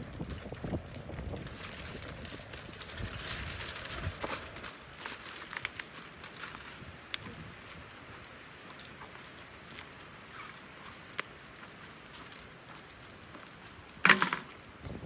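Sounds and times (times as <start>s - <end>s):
aluminium foil crinkling: 0.0s - 14.5s
wood fire crackling: 0.0s - 15.0s.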